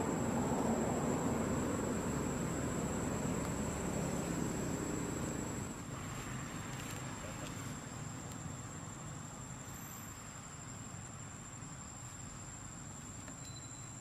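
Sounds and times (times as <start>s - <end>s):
insects droning: 0.0s - 14.0s
low outdoor hum: 0.0s - 14.0s.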